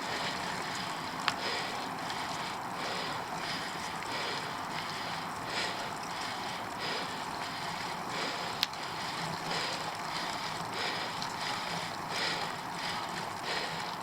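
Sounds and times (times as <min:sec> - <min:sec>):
bicycle riding noise: 0:00.0 - 0:14.0.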